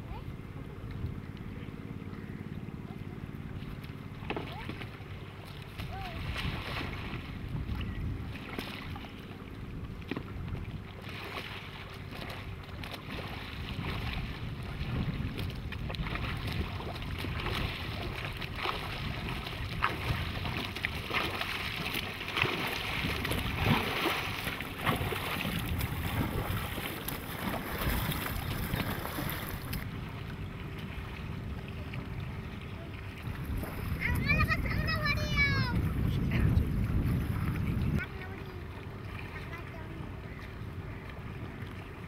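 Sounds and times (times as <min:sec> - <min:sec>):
wind rumbling on microphone: 0:00.0 - 0:42.0
paddle splashing in water: 0:03.4 - 0:36.0, 0:36.8 - 0:42.0.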